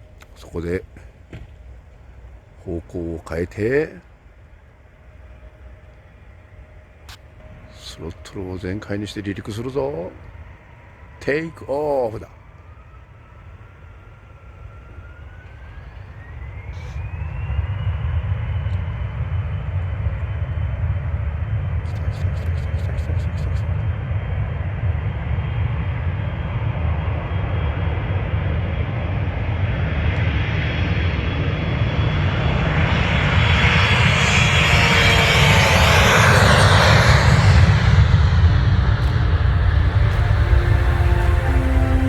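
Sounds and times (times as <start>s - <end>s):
airplane engines roaring: 0.0s - 42.0s.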